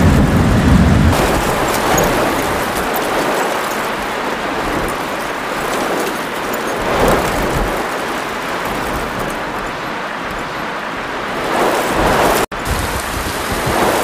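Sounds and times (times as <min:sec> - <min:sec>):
heavy rain and hail hiss: 0:00.0 - 0:14.0.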